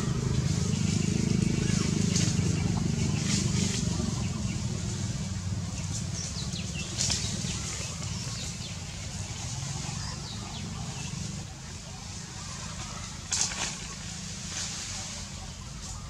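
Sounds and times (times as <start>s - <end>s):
steady low rumble: 0.0s - 13.2s
foliage rustling: 0.0s - 16.0s.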